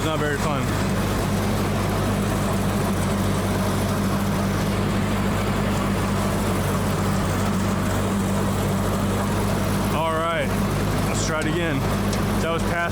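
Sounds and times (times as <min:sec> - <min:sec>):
tractor engine running steadily: 0:00.0 - 0:12.9.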